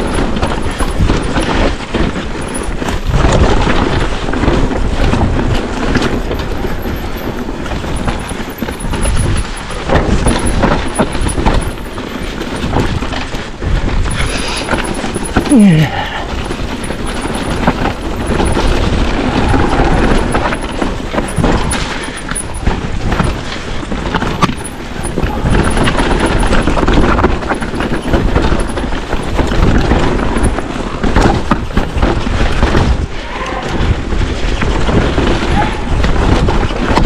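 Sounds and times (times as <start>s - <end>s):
bike knocking and rattling: 0.0s - 37.0s
tyres rumbling over dirt: 0.0s - 37.0s
wind buffeting microphone: 0.0s - 37.0s.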